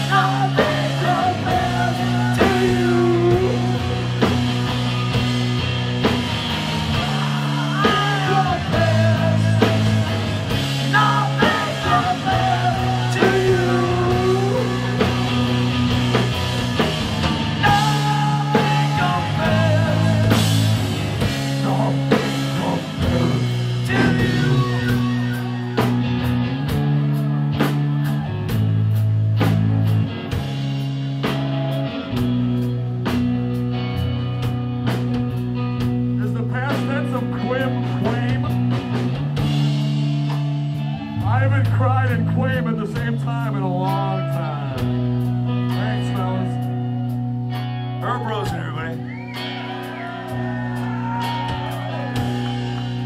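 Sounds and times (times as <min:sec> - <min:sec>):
rock band playing: 0:00.0 - 0:53.0.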